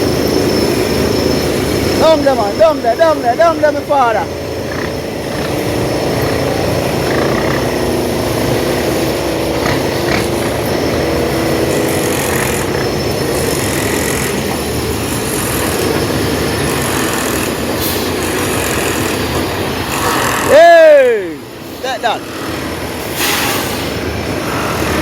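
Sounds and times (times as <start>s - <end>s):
metallic tones: 0.0s - 20.6s
diesel machinery engine rumble: 0.0s - 25.0s.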